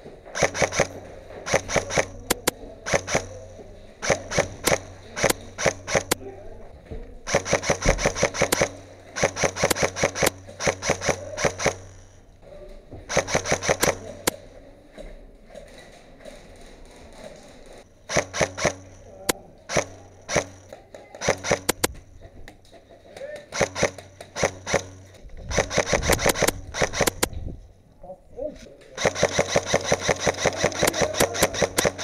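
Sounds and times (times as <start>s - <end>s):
airsoft guns firing volleys: 0.0s - 6.6s, 7.2s - 14.7s, 15.6s - 27.5s, 29.0s - 32.0s.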